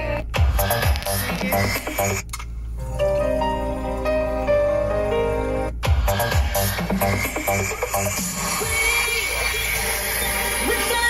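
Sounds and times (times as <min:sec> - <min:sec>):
music with deep bass: 0:00.0 - 0:11.0.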